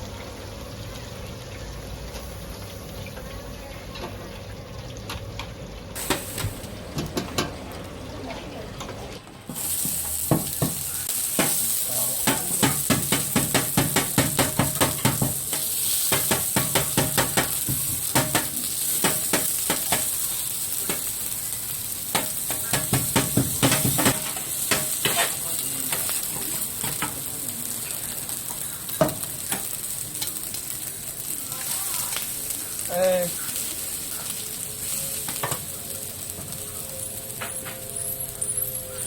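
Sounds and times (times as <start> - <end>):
rice sizzling on a griddle: 0.0 - 4.4, 5.9 - 8.4, 9.5 - 39.0.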